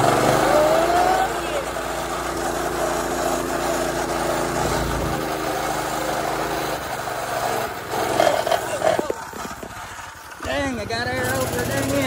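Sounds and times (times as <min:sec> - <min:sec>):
mini bike engine running: 0:00.0 - 0:12.0.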